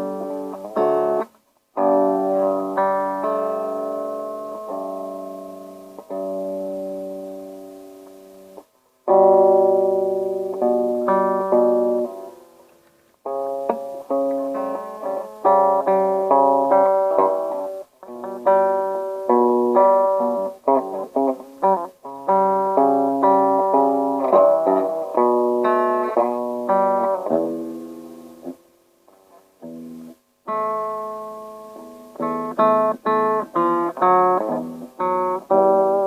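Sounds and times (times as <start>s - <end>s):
guitar playing: 0.0s - 36.0s.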